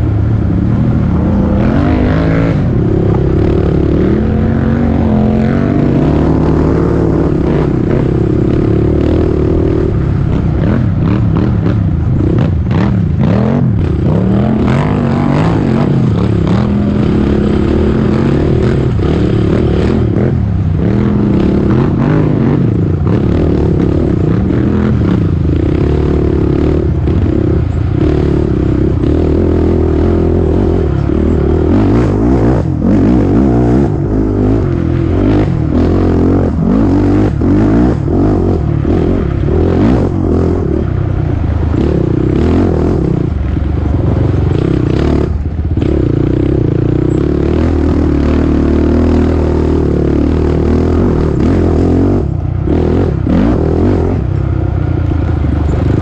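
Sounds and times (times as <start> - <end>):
off-road engine revving: 0.0 - 56.0.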